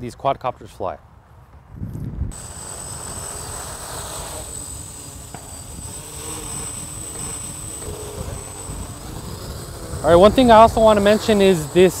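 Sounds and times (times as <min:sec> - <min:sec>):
quadcopter propellers buzzing: 0:02.3 - 0:12.0.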